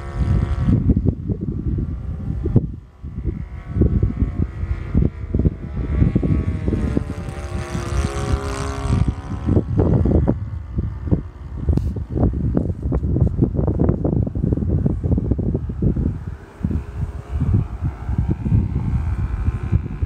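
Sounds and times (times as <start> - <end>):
propeller plane engine droning: 0.0 - 20.0
wind buffeting microphone: 0.0 - 20.0.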